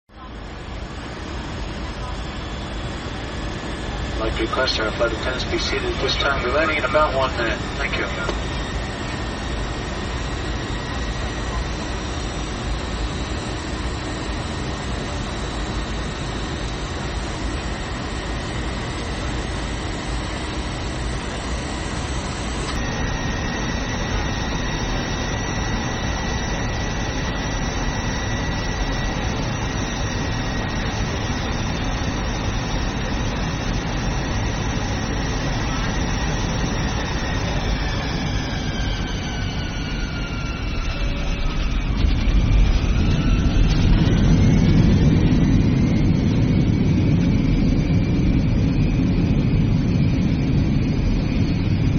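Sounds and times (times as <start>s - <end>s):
airliner cabin roar: 0.1s - 51.9s
jet engine whine: 0.1s - 51.9s.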